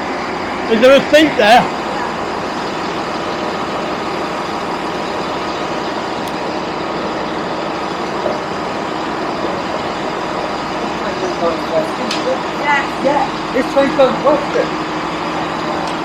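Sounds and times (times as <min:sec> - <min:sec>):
passenger train noise: 0:00.0 - 0:16.0.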